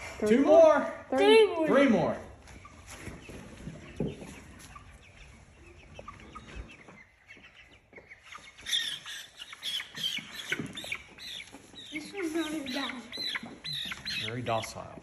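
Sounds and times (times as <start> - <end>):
chickens clucking and cheeping: 0.0 - 15.0.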